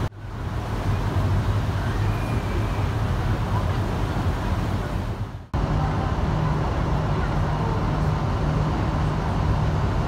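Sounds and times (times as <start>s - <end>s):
boat engine droning: 0.0s - 10.0s
water noise: 0.0s - 10.0s.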